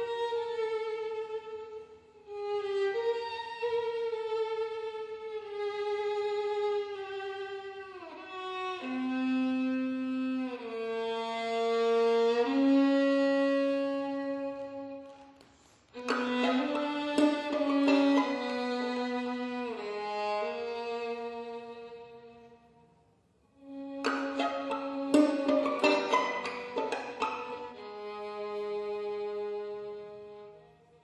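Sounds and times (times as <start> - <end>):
slow bowed violin music: 0.0 - 22.9, 23.6 - 31.0.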